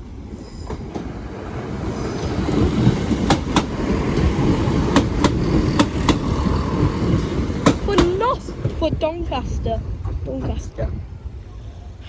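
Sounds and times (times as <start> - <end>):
train rumbling: 0.0 - 12.0
train wheels clacking on rail joints: 0.4 - 10.8.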